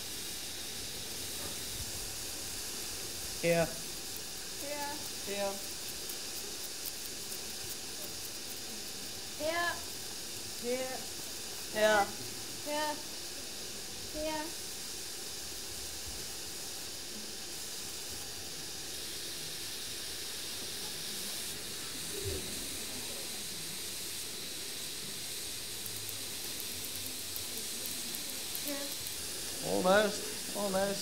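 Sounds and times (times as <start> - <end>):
compressed air hissing: 0.0 - 31.0.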